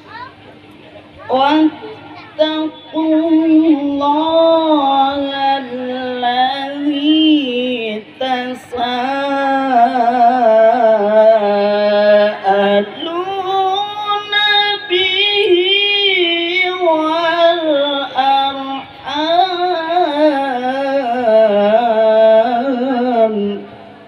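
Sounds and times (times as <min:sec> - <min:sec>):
person reciting melodically: 0:01.2 - 0:23.8.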